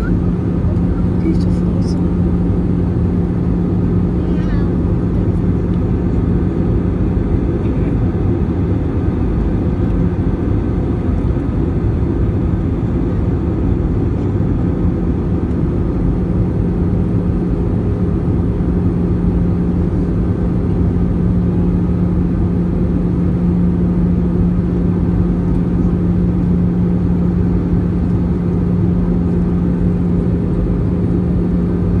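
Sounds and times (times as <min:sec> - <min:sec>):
airplane cabin engine roar: 0:00.0 - 0:32.0
constant low hum: 0:00.0 - 0:32.0.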